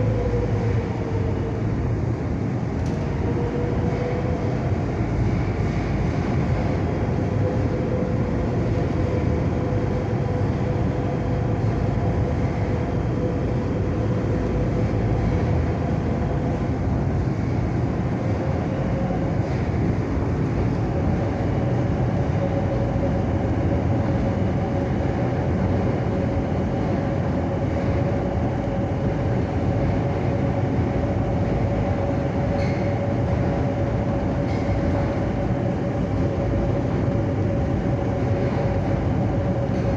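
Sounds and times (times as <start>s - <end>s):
train rumbling through tunnel: 0.0s - 39.9s
train whine: 0.0s - 39.9s.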